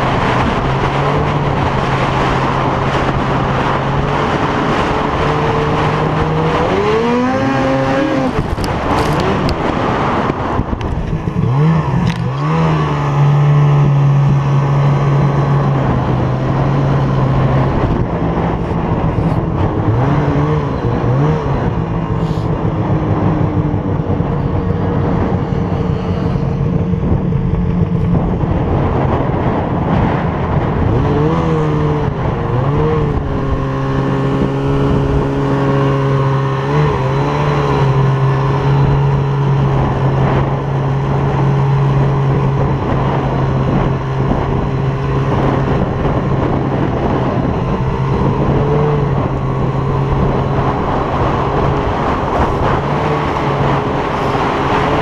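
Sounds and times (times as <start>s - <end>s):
snowmobile engine revving: 0.0s - 55.0s
wind noise: 0.0s - 55.0s.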